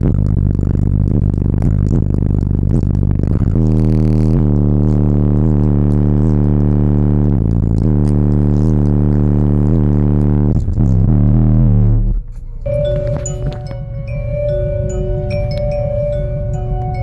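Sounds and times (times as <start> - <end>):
deep sustained bass music: 0.0 - 17.0.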